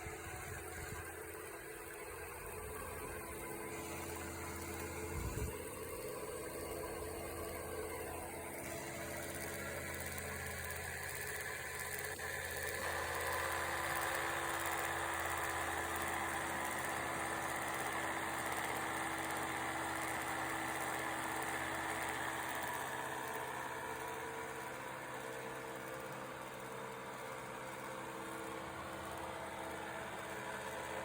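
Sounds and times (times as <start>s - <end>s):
film projector motor humming: 0.0s - 31.0s
high mechanical whine: 0.0s - 31.0s.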